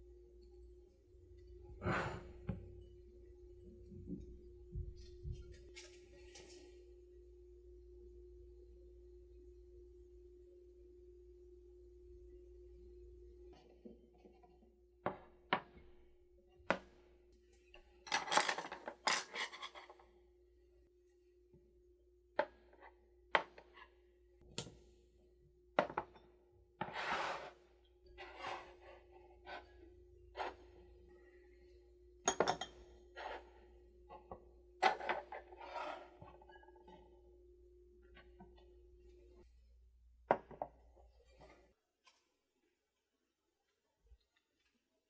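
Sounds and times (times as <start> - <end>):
faint steady hum: 0.0 - 41.7.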